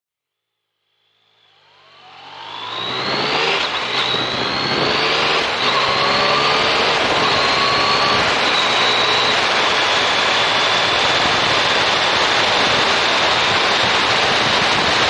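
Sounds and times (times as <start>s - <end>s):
motorcycle engine shifting up: 1.8s - 15.0s
wind rushing: 2.9s - 15.0s.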